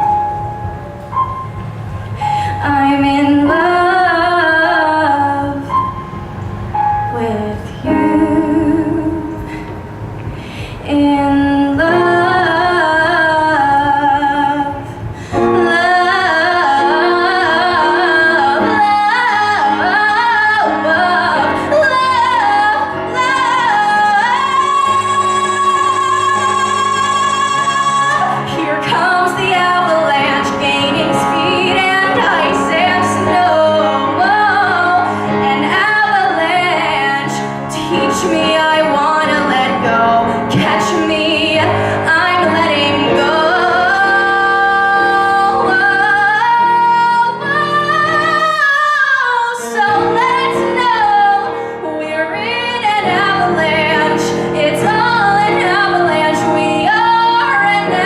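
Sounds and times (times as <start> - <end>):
instrumental accompaniment: 0.0 - 58.0
woman singing pop song: 2.3 - 5.7, 7.1 - 9.8, 10.5 - 58.0.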